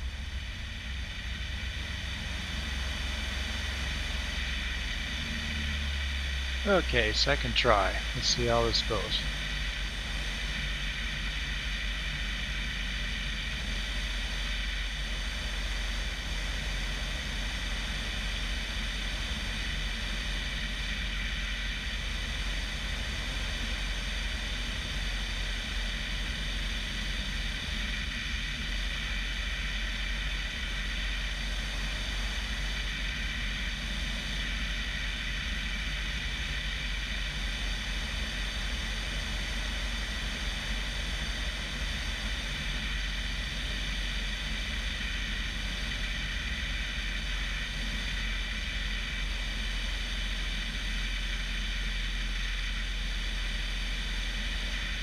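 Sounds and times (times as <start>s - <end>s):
propeller plane engine in flight: 0.0s - 55.0s.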